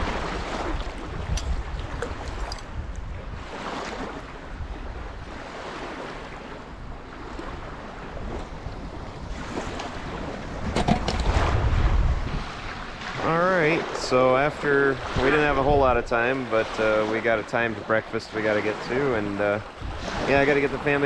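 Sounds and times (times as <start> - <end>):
small waves on stony shore: 0.0 - 21.0
wind on microphone: 0.0 - 21.0.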